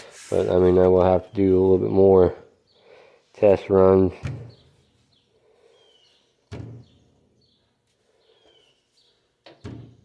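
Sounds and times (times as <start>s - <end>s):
birds chirping faintly: 0.3s - 10.0s.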